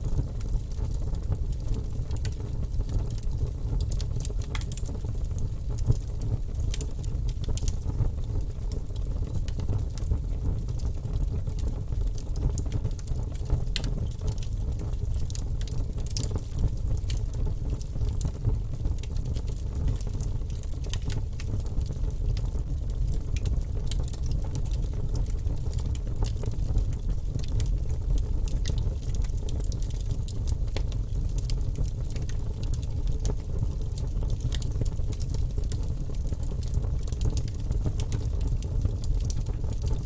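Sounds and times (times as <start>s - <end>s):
fire crackles and pops: 0.0s - 40.0s
fire flames rumbling: 0.1s - 40.0s.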